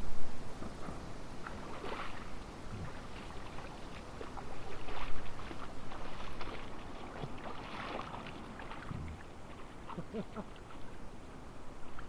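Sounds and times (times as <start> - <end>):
river water splashing: 1.3 - 12.0.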